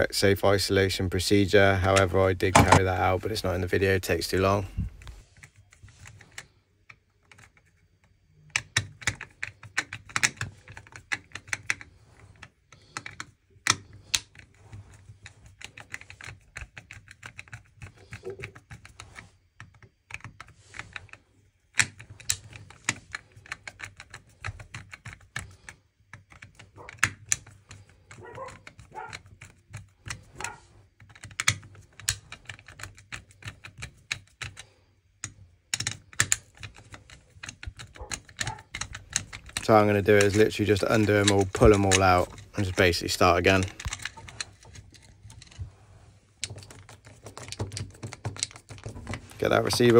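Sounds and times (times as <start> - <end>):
wires handled: 1.8 - 49.9
screwdriver clicks and scrapes: 8.5 - 49.9.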